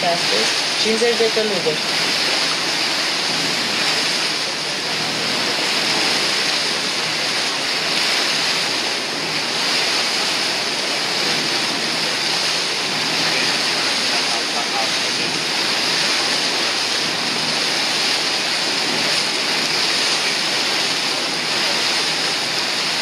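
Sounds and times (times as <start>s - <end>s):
water and wind rushing around boat: 0.0s - 23.0s.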